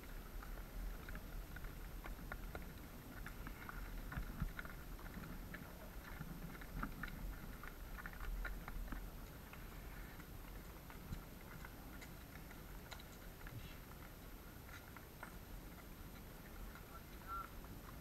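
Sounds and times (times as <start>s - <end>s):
horse hooves clopping: 0.0s - 18.0s.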